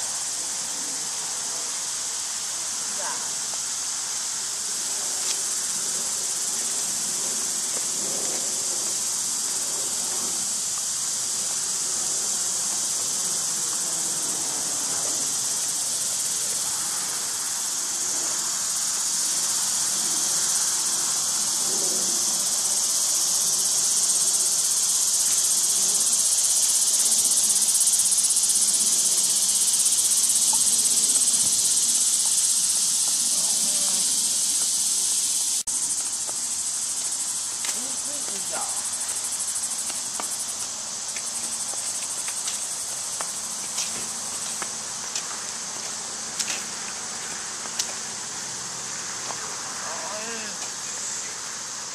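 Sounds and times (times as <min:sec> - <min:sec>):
insects shrilling: 0:00.0 - 0:51.9.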